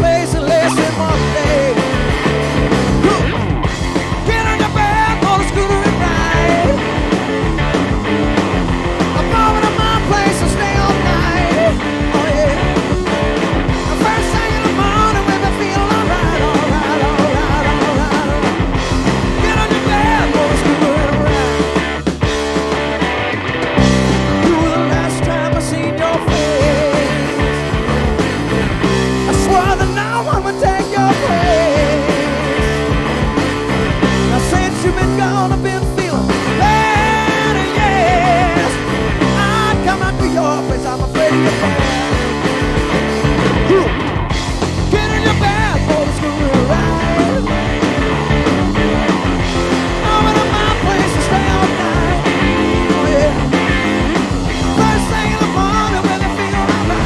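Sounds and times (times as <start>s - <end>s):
hard rock band playing: 0.0s - 57.0s.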